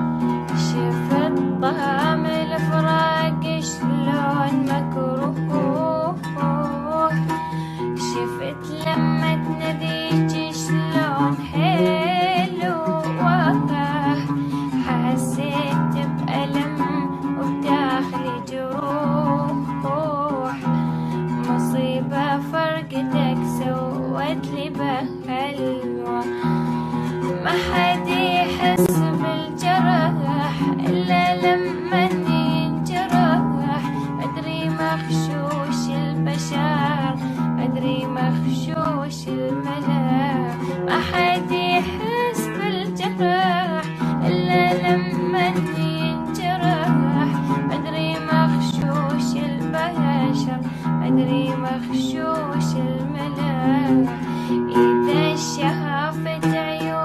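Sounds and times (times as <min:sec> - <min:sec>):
girl singing with vibrato: 0:00.0 - 0:57.0
oud playing: 0:00.0 - 0:57.0.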